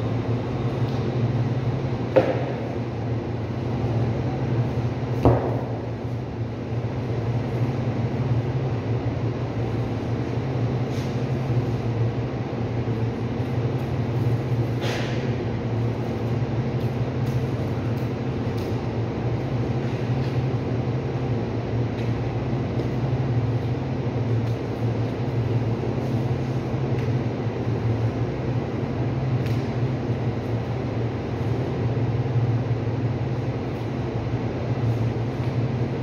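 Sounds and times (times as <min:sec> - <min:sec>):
cooling unit fan hum: 0:00.0 - 0:36.0.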